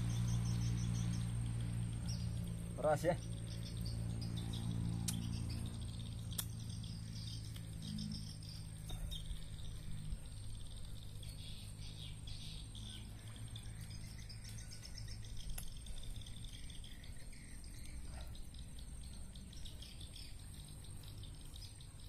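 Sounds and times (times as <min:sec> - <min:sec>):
birds chirping: 0:00.0 - 0:22.0
insects trilling: 0:00.0 - 0:22.0.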